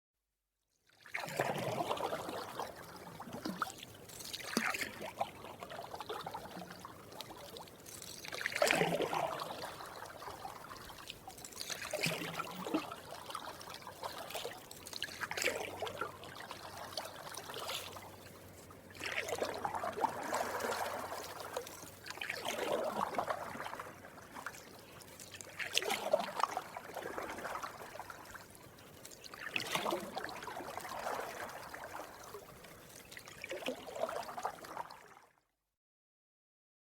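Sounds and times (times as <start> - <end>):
paddle splashing through water: 1.0 - 35.1
water trickling off paddle: 1.0 - 35.1.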